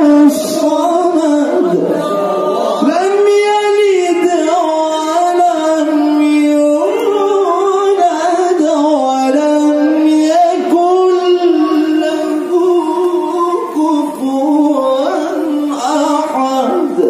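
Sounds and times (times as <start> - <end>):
man reciting through a microphone: 0.0 - 17.0.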